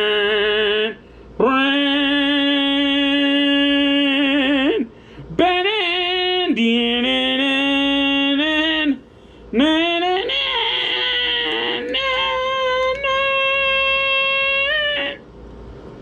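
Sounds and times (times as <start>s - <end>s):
man singing long held notes: 0.0s - 15.2s.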